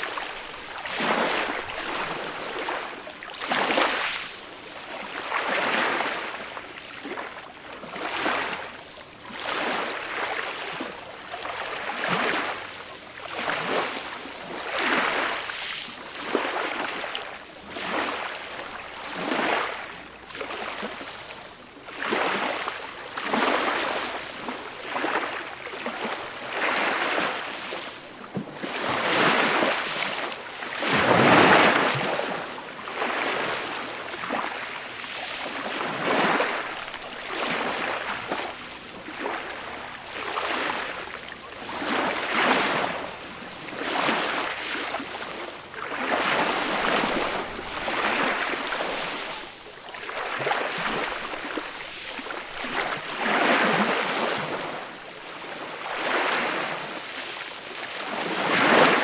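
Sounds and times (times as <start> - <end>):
waves washing up beach: 0.0 - 59.0.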